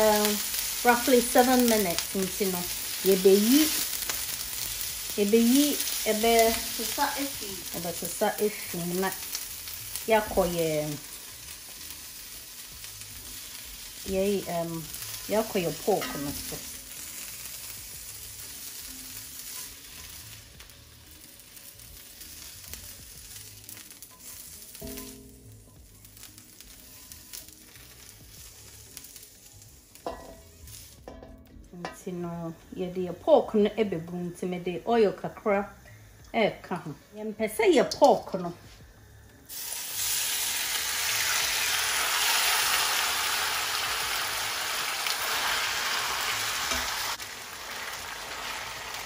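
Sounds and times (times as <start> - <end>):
vegetables sizzling in oil: 0.0 - 49.0.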